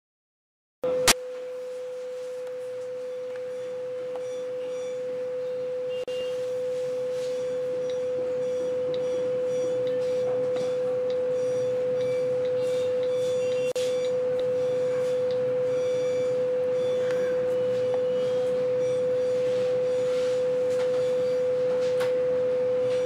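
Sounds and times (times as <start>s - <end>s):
steady electronic tone: 0.8s - 23.0s.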